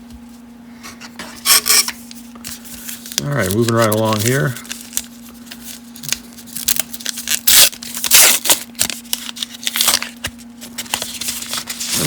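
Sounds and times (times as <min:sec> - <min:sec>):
foil wrapper tearing and crinkling: 0:02.0 - 0:12.0
cards being shuffled: 0:02.1 - 0:12.0.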